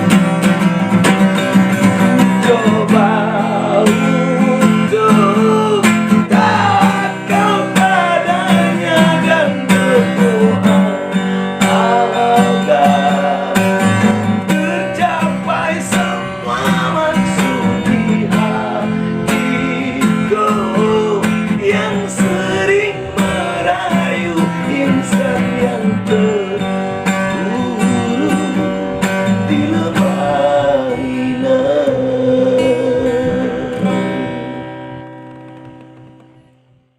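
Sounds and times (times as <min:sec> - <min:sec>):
slow rock guitar melody: 0:00.0 - 0:36.8
sustained bass and chords: 0:00.0 - 0:36.9.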